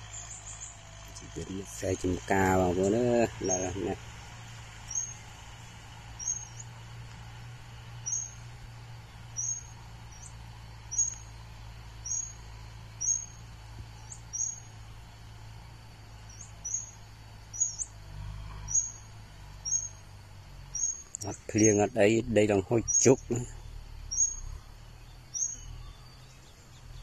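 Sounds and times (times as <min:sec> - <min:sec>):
bird chirping: 0:00.0 - 0:27.0
distant tractor engine drone: 0:00.0 - 0:27.0.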